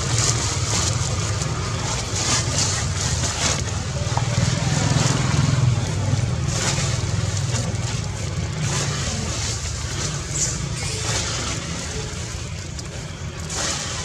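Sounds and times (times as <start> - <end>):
rumbling hissing background noise: 0.0 - 14.0.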